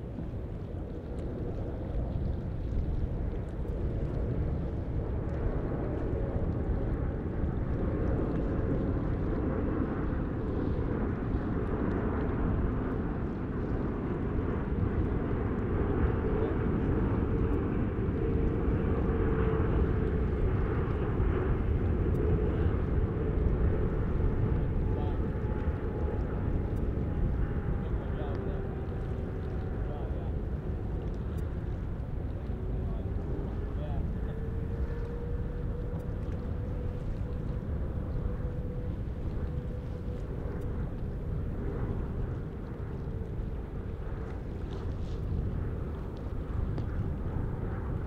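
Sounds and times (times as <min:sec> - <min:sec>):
jet engines rumbling with whine: 0:00.0 - 0:48.0.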